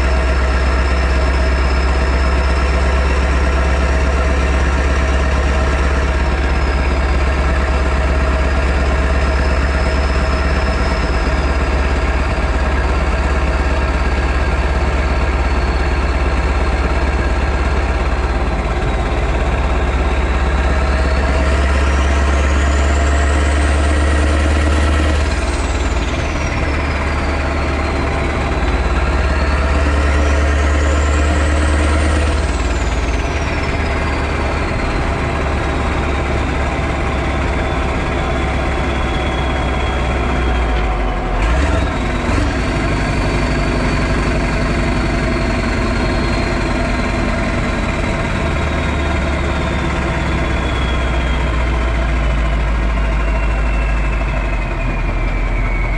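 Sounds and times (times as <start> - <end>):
diesel truck engine revving: 0.0 - 55.9.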